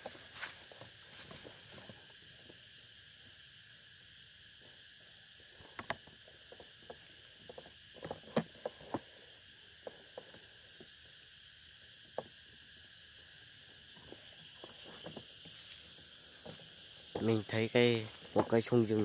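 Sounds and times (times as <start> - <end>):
crackles of dry undergrowth: 0.0 - 3.5, 4.1 - 19.0
forest insects droning: 0.0 - 19.0.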